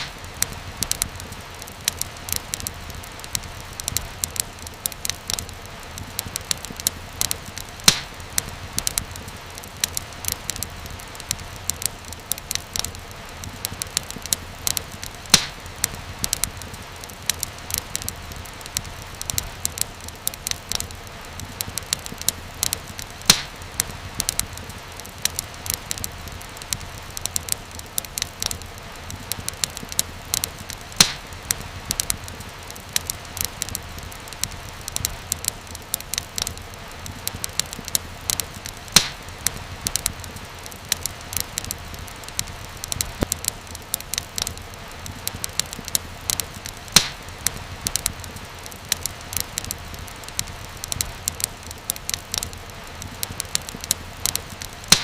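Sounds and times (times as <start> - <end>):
fire crackling in a fireplace: 0.0 - 55.0.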